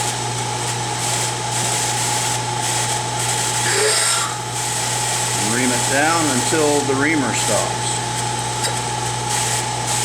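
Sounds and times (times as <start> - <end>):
drilling machine humming: 1.5 - 10.0.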